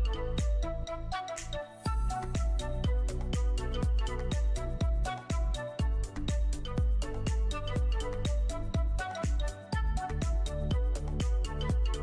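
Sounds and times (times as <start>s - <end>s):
electronic music with kick drum: 0.0s - 0.8s, 1.4s - 12.0s.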